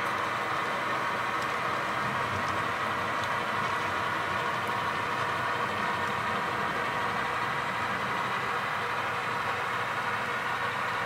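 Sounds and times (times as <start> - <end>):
model locomotive diesel engine sound: 0.0 - 11.0.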